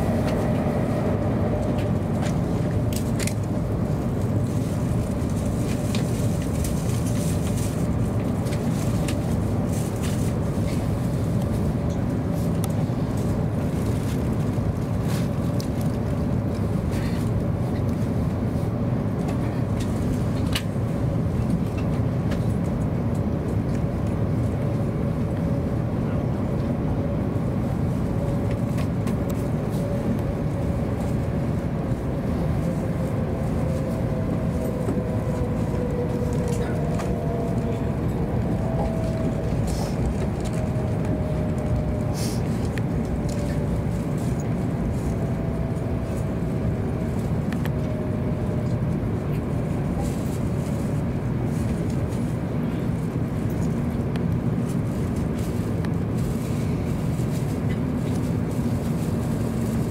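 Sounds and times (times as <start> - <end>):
faint constant hum: 0.0 - 59.9
train cabin rumble: 0.0 - 59.9.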